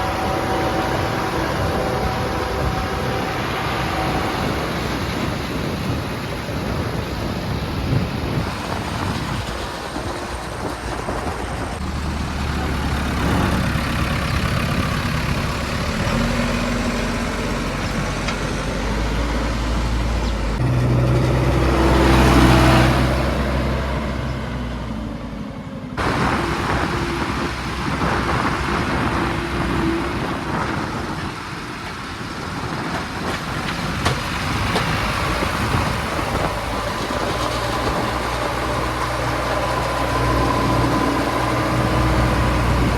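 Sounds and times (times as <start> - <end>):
backhoe diesel engine running: 0.0 - 42.9.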